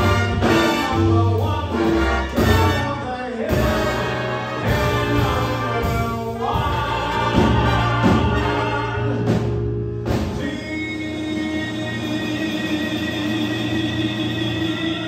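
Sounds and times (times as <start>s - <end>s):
man singing: 0.0s - 9.6s, 10.2s - 15.0s
big band playing chords: 0.0s - 15.0s.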